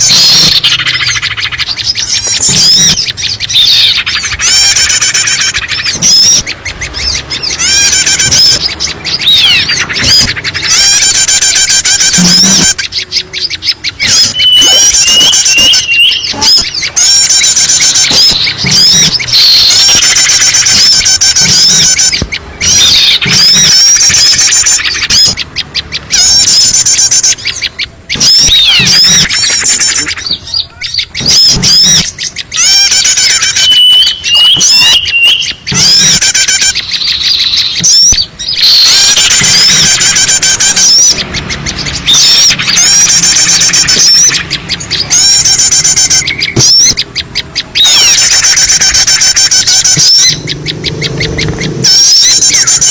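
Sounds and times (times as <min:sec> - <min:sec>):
small birds chirping and squawking: 0:00.0 - 0:52.9.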